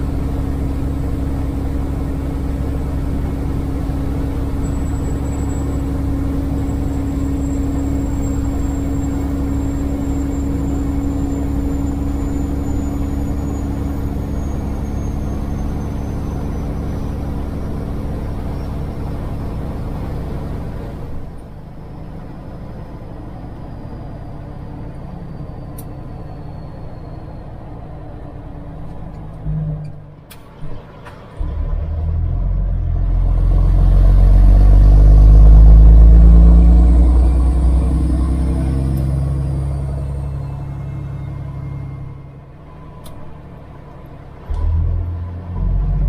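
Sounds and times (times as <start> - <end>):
truck diesel engine: 0.0 - 46.0.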